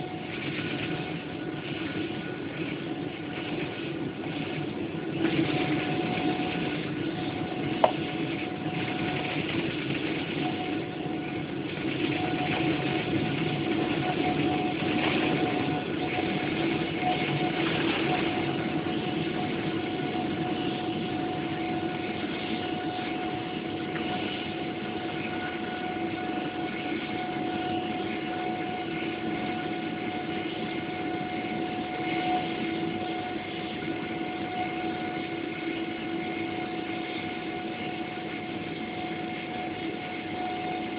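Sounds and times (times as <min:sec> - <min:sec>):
jet engine roar: 0:00.0 - 0:40.9
whining fan tones: 0:00.0 - 0:40.9.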